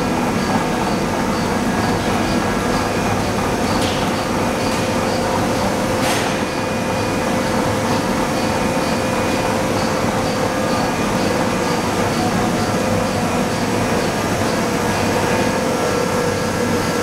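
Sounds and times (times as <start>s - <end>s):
industrial machine hum: 0.0s - 17.0s.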